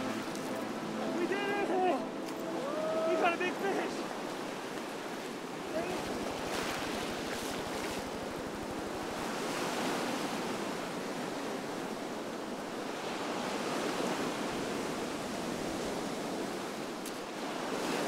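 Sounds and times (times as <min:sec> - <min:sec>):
waves breaking on beach: 0:00.0 - 0:18.0.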